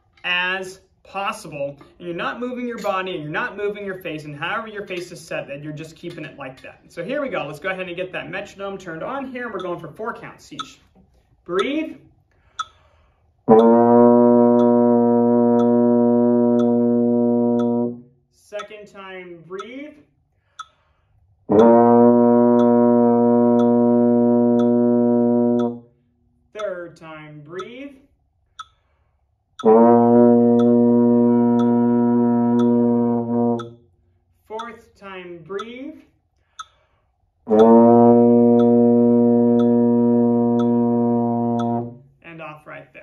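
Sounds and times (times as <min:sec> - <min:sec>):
metronome clicking: 0:01.5 - 0:18.0, 0:18.6 - 0:20.9, 0:21.5 - 0:26.0, 0:26.6 - 0:34.0, 0:34.6 - 0:42.0.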